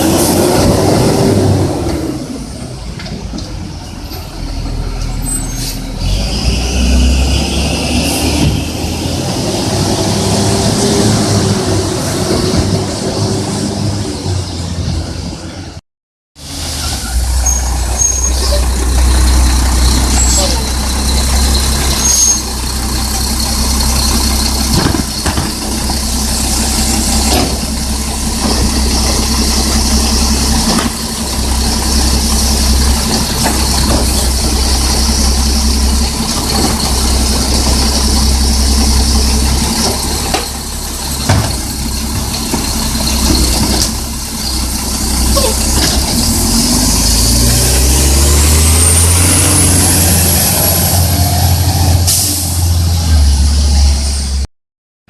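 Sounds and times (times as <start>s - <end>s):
garbage truck engine: 0.0s - 15.8s, 16.4s - 54.5s.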